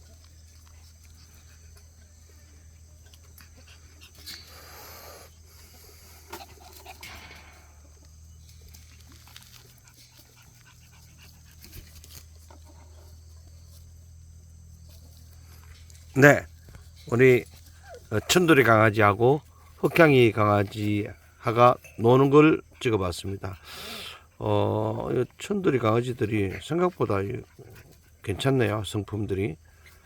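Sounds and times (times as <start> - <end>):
puppies scuffling: 5.7 - 30.0.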